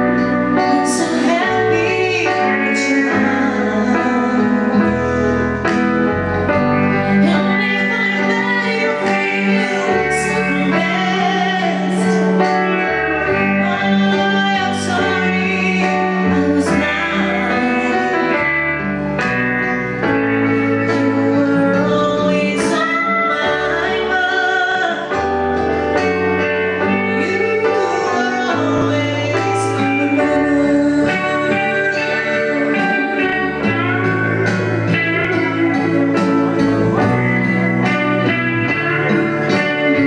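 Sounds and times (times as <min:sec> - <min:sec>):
woman singing with vibrato: 0:00.0 - 0:06.1, 0:06.7 - 0:19.1, 0:20.0 - 0:40.0
bass line: 0:00.0 - 0:40.0.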